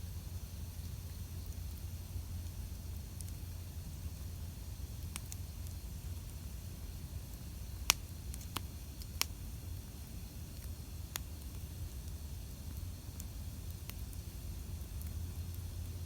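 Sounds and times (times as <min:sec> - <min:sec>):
campfire crackling and popping: 0:00.5 - 0:16.0.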